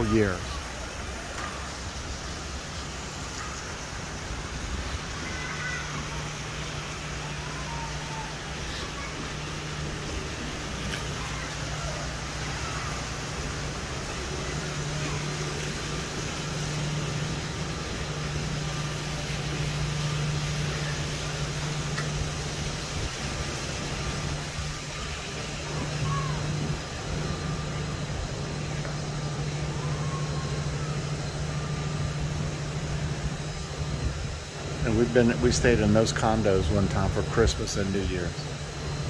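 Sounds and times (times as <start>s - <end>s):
low machine hum: 0.0s - 39.0s
rushing background noise: 0.0s - 39.0s.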